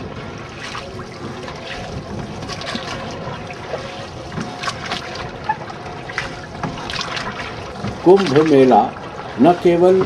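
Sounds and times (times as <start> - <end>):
oar pulling through water: 0.0 - 10.0
rushing water: 0.0 - 10.0
water splashes and drips: 0.0 - 10.0
wind: 0.0 - 10.0.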